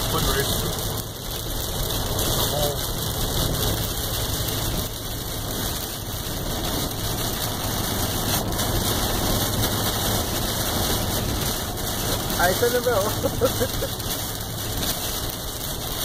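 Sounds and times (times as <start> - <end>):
engine and road noise: 0.0 - 16.0
rain on glass and body: 0.0 - 16.0.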